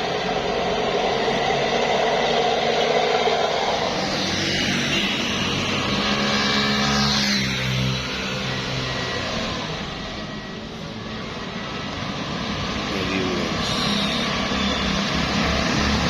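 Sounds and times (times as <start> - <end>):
bus driving past: 0.0 - 16.0.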